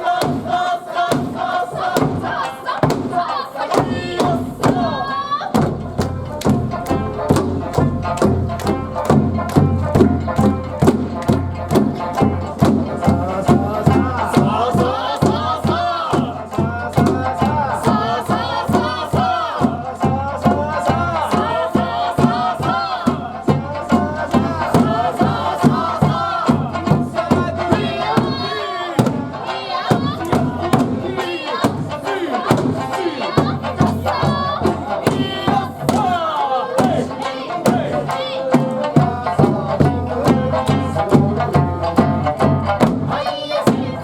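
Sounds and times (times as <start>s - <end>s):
drums struck in steady beat: 0.0s - 44.0s.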